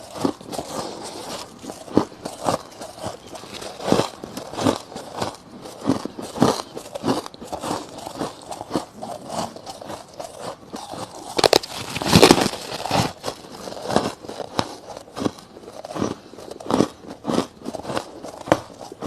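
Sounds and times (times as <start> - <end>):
crushed ice being chewed: 0.0 - 19.0.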